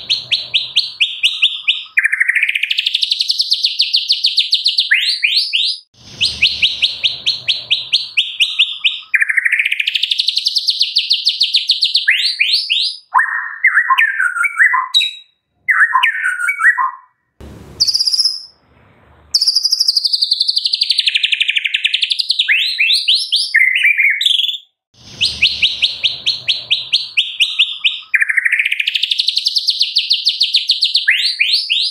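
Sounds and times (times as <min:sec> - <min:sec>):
songbird singing trills: 0:00.0 - 0:17.2, 0:19.4 - 0:31.9.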